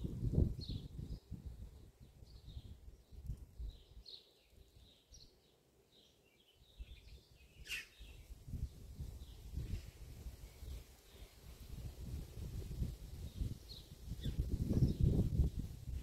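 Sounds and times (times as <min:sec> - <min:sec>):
songbirds chirping: 0:00.4 - 0:15.8.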